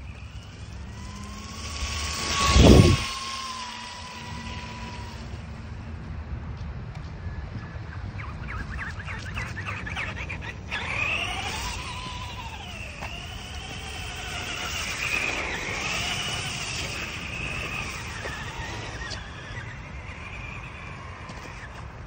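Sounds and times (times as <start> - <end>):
toy car motor whining: 0.0 - 5.7, 8.6 - 22.0.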